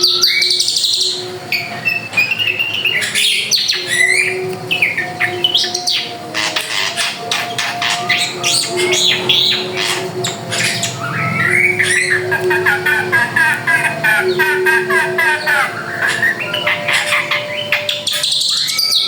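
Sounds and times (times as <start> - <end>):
bird singing chirps and whistles: 0.0 - 19.0
faint steady hum: 0.0 - 19.0.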